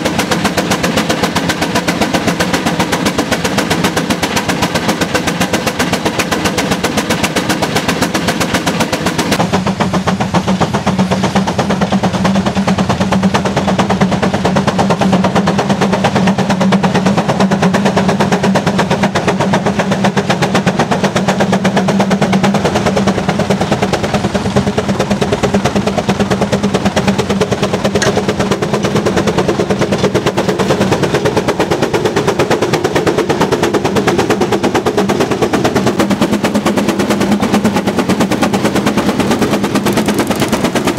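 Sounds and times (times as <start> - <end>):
engine exhaust popping: 0.0 - 40.9
steady low engine hum: 0.0 - 40.9.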